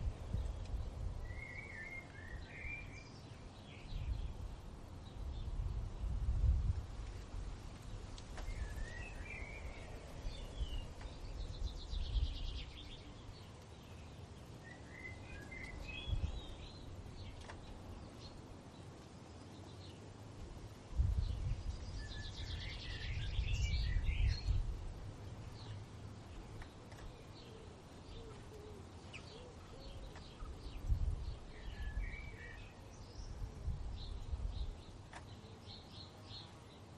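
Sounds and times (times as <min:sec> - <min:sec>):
songbirds warbling and trilling: 0:00.0 - 0:06.3, 0:07.0 - 0:36.9
low rumble of wind: 0:00.0 - 0:36.9.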